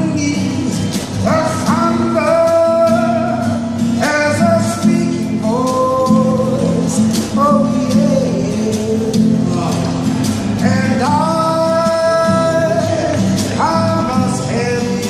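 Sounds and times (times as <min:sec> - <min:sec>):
acoustic guitar: 0:00.0 - 0:15.0
man singing: 0:00.0 - 0:15.0.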